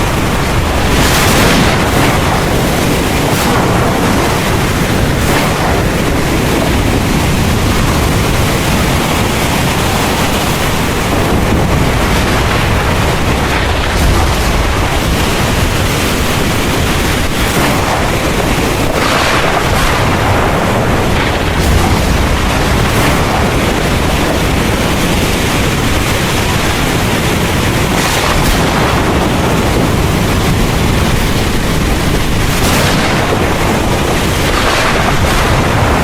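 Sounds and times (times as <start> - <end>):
heavy rain pouring: 0.0 - 36.0
low thunder rumble: 0.0 - 36.0.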